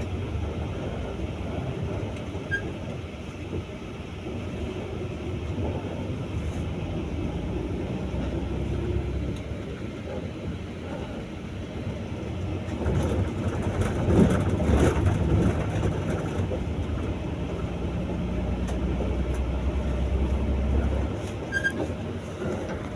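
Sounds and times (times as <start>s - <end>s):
bus engine rumble: 0.0s - 22.9s.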